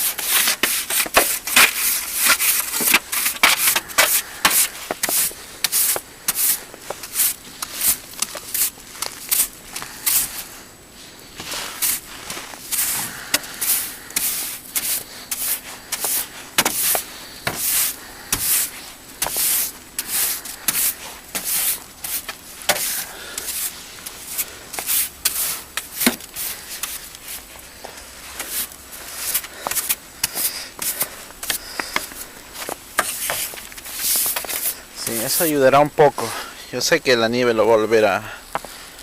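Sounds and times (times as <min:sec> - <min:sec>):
snow brush scraping: 0:00.0 - 0:36.6.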